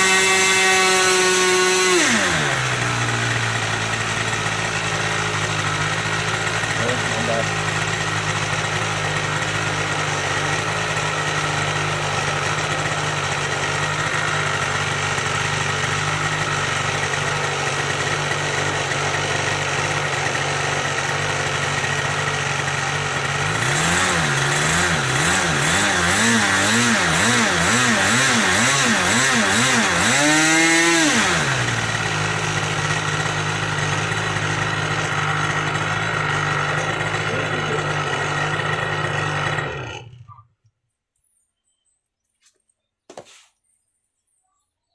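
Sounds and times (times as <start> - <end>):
model airplane engine running: 0.0 - 40.3.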